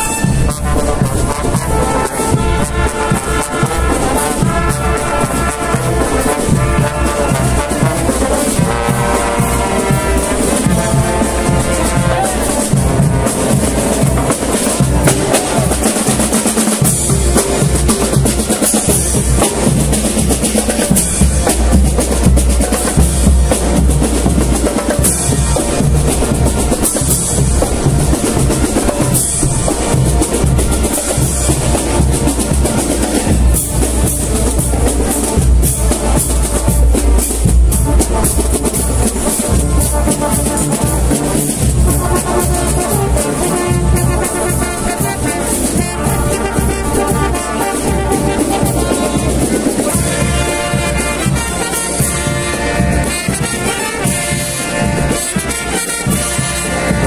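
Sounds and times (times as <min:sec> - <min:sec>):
marching band playing: 0:00.0 - 0:57.0
snare and bass drums: 0:00.0 - 0:57.0
trumpets and trombones: 0:00.0 - 0:57.0.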